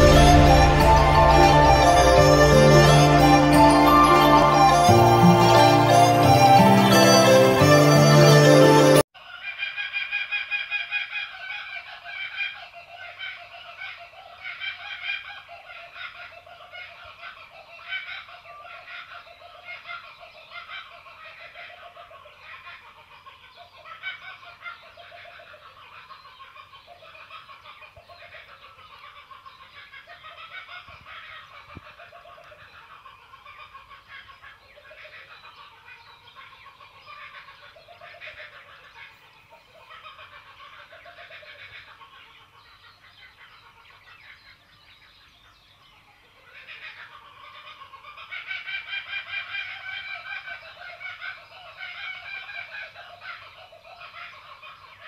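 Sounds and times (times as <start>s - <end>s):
animals clucking and chattering: 0.0s - 55.0s.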